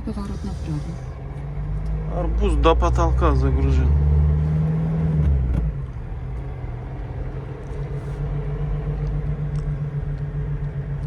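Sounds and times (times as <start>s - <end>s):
heavy low rumble: 0.0s - 11.0s
van engine humming: 0.0s - 11.0s.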